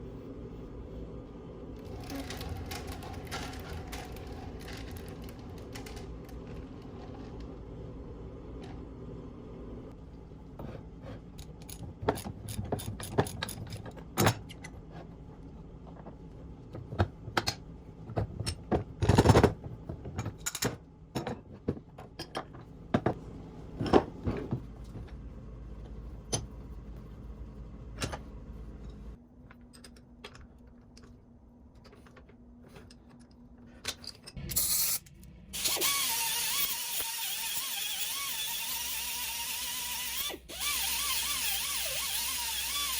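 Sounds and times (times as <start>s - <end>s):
steady low hum: 0.0s - 35.8s.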